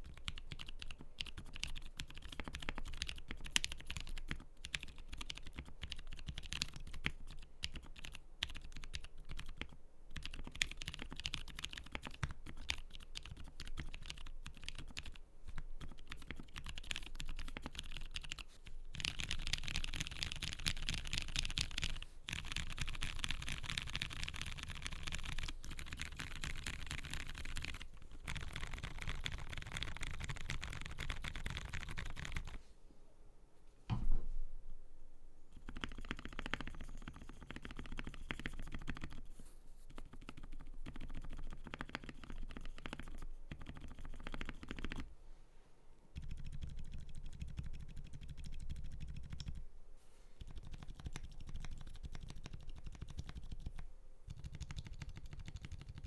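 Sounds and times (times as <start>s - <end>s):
fast typing on mechanical keyboard: 0.0s - 32.6s, 35.6s - 39.3s, 40.0s - 45.0s, 46.2s - 49.6s, 50.4s - 56.0s.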